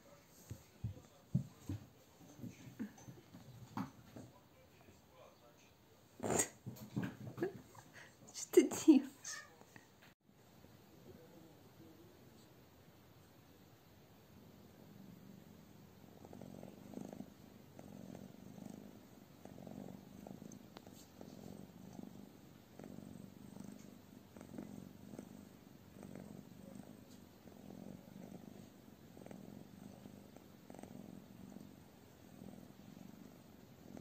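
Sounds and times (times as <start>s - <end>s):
cat purring: 0.0s - 8.2s, 11.0s - 34.0s.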